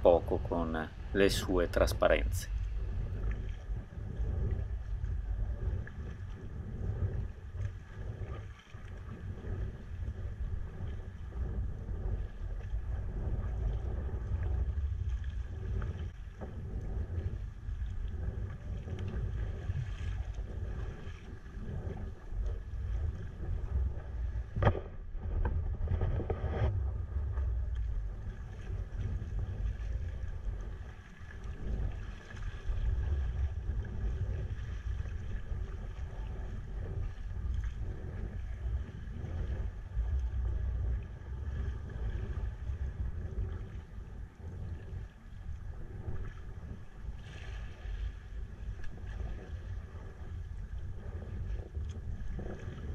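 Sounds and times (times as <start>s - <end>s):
kayak on choppy water: 0.0s - 52.9s
wind rumbling on microphone: 0.0s - 52.9s.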